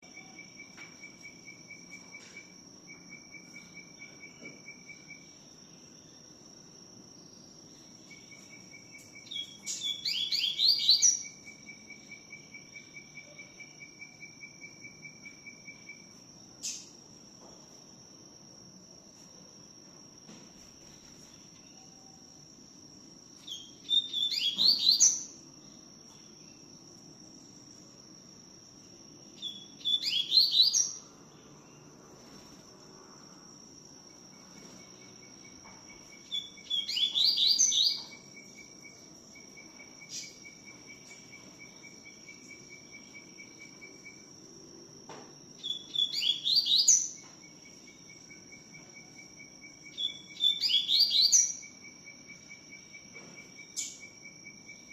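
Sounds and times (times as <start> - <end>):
high insect-like tone: 0.0 - 54.9.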